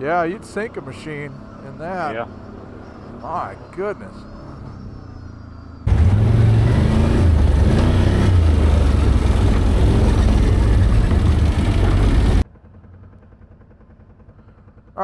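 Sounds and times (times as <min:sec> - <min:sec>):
atv engine running hard: 0:00.0 - 0:14.6.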